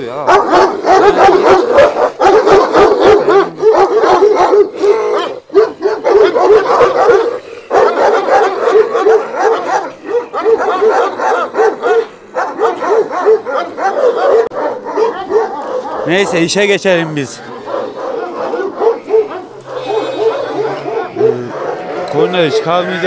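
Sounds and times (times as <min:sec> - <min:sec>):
dog yapping barks: 0:00.2 - 0:16.5, 0:17.4 - 0:22.5.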